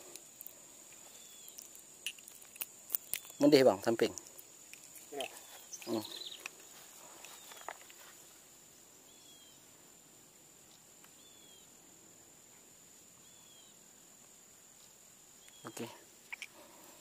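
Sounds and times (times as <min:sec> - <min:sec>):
faint high whine: 0:03.2 - 0:17.0.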